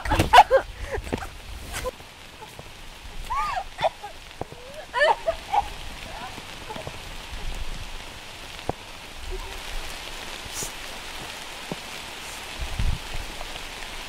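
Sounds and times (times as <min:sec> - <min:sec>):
rain on leaves: 0:00.0 - 0:14.0.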